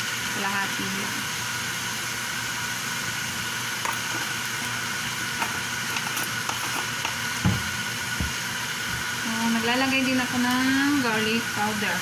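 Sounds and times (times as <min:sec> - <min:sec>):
fan-like hum with high whine: 0:00.0 - 0:12.0.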